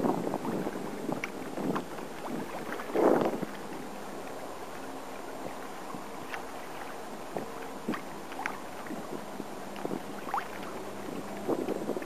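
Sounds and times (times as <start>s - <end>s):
water splashing against kayak hull: 0.0s - 12.0s.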